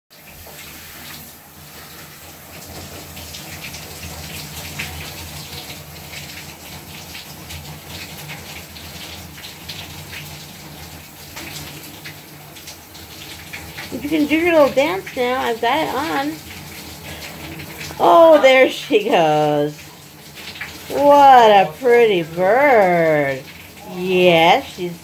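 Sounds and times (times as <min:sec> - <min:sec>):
shower running into bathtub: 0:00.1 - 0:25.0.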